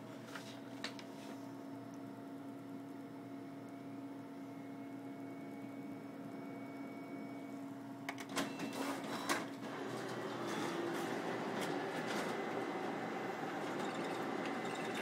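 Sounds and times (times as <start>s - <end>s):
photocopier humming: 2.9s - 15.0s.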